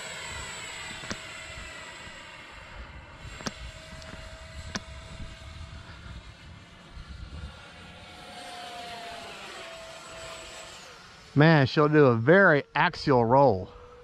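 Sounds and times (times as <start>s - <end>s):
model jet fan whine flying past: 0.0s - 14.0s.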